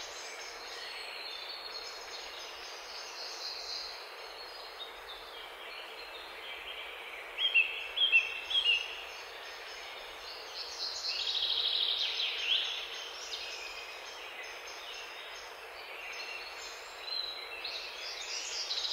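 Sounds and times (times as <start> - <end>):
background hiss: 0.0 - 18.9.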